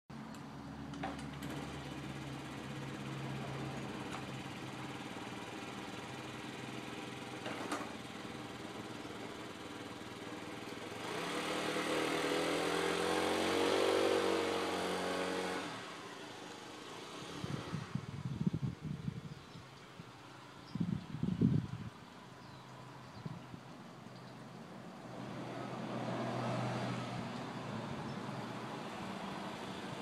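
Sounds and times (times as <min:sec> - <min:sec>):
scooter engine idling and revving: 0:00.4 - 0:23.7, 0:25.0 - 0:30.0.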